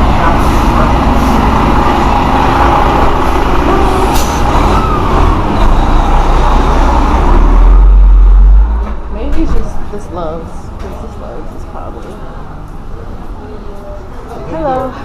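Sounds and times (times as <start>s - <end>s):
truck diesel engine: 0.0s - 13.6s
road noise: 0.0s - 15.0s.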